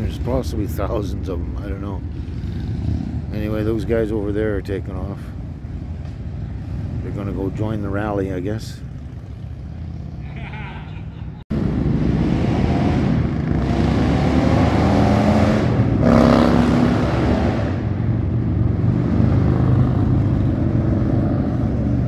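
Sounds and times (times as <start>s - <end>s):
motorcycles riding past revving: 0.0s - 3.9s, 5.4s - 22.0s.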